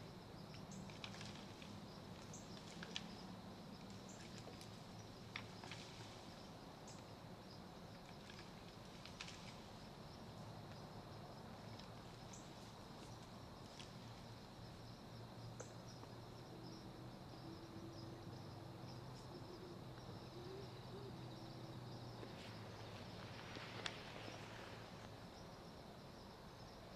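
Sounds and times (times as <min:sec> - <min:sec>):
high insect drone: 0:00.0 - 0:26.9.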